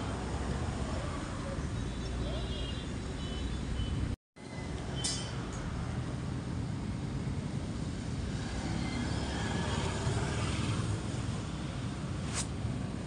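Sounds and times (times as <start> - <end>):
steady traffic rumble and hiss: 0.0 - 13.0.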